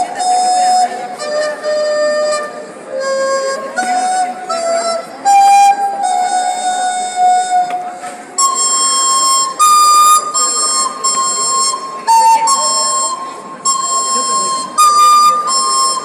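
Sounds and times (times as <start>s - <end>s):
flute playing slow melody: 0.0s - 16.0s.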